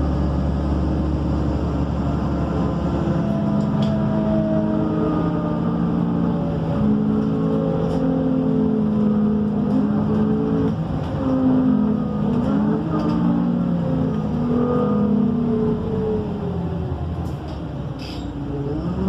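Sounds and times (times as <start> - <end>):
bus engine running on board: 0.0 - 19.0.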